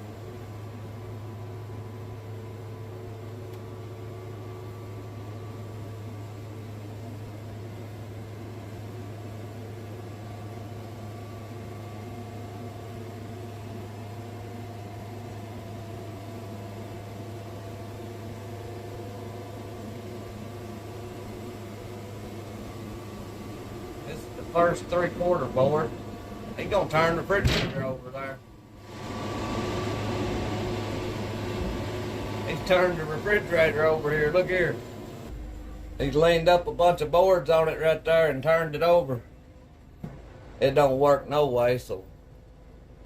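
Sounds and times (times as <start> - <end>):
band sawmill running: 0.0 - 43.0.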